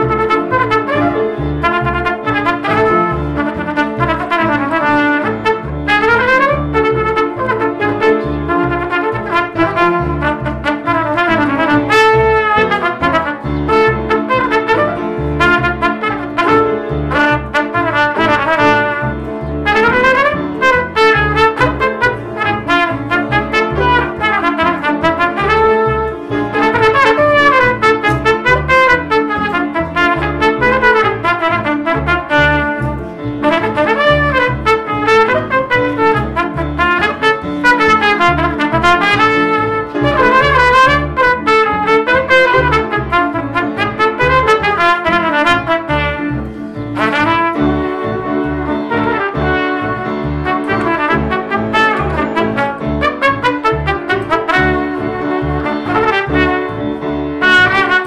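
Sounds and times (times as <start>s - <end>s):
plucked double bass: 0.0s - 58.0s
trumpet playing folk melody: 0.0s - 58.0s.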